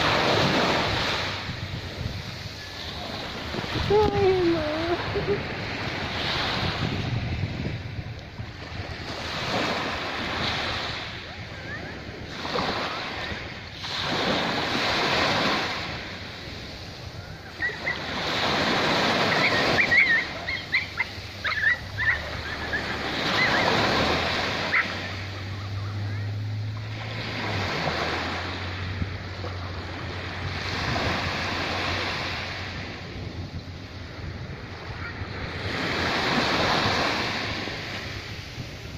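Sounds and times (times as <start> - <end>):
small waves washing over sand: 0.0 - 38.9.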